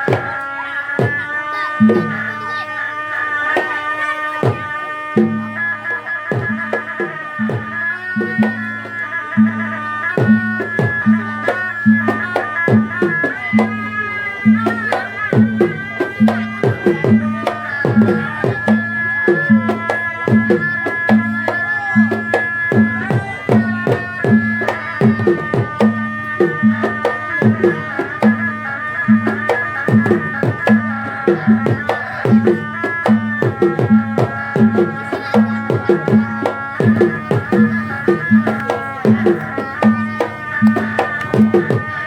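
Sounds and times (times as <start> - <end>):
hand-drum strokes: 0.0 - 42.0
shrill reed-pipe melody: 0.0 - 42.0.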